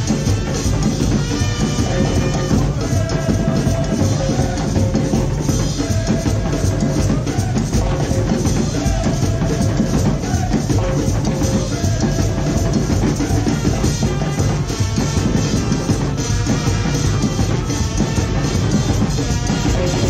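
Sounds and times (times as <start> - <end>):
driving drums: 0.0 - 20.0
parade band music: 0.0 - 20.0.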